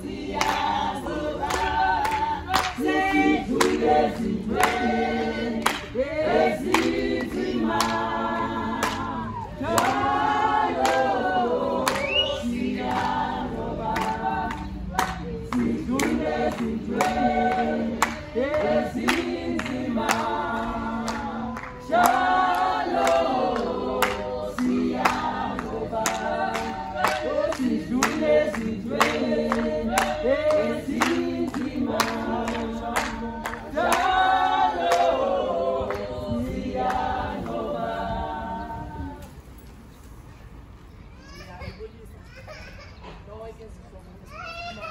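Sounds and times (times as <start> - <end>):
rhythmic hand claps: 0.0 - 38.5
group singing a cappella: 0.0 - 39.9.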